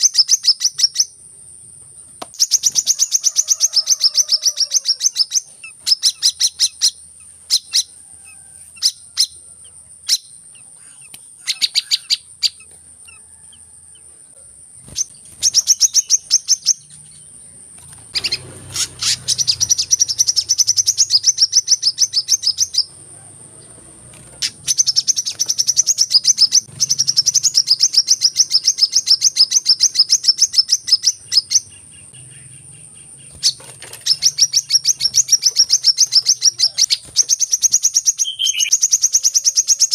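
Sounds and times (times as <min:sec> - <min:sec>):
sunbird rapid high chirps: 0:00.0 - 0:39.9.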